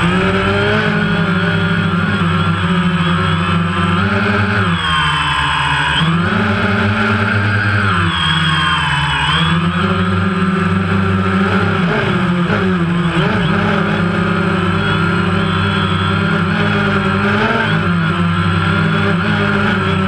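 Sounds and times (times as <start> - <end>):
drone rotors buzzing: 0.0 - 20.0.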